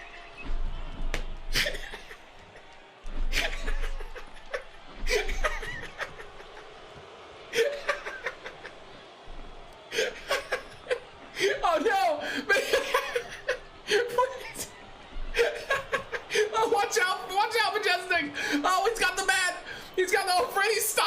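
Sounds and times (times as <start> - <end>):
people laughing: 0.8 - 21.0.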